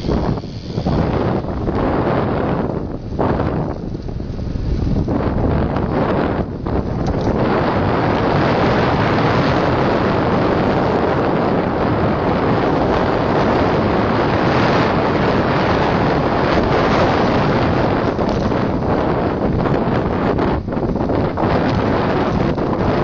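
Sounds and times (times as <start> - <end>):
road noise: 0.0 - 23.0
wind rushing over microphone: 0.0 - 23.0.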